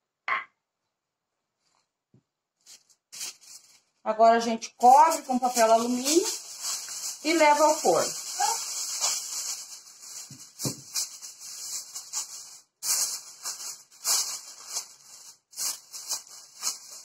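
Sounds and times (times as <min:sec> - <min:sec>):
aluminium foil crinkling: 0:02.6 - 0:04.0, 0:04.6 - 0:17.0.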